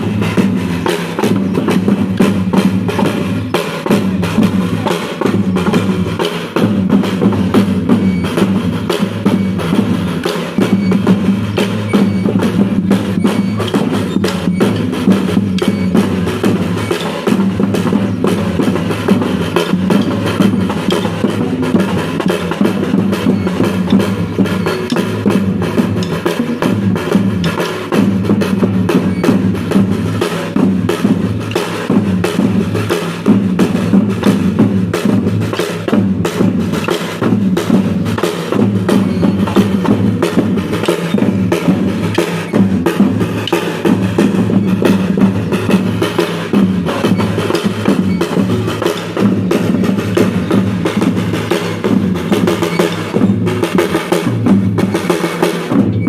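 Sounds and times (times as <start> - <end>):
drums and wooden percussion: 0.0 - 56.0.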